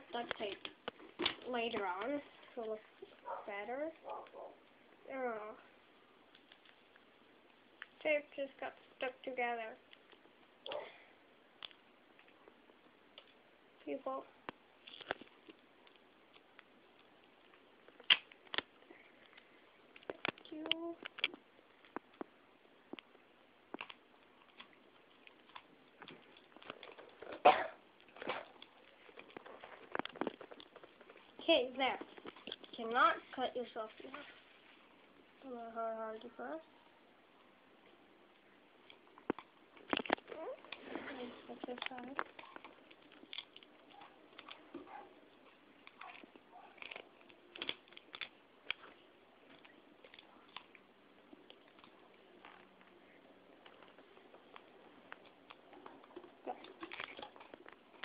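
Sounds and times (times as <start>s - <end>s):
tape crinkling and clicking: 0.1s - 3.2s, 6.3s - 8.0s, 9.8s - 10.9s, 11.6s - 13.4s, 14.4s - 33.0s, 37.8s - 58.0s.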